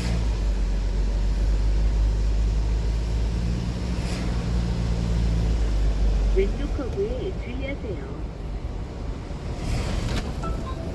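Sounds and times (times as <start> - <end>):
car interior road and engine rumble: 0.0 - 10.9.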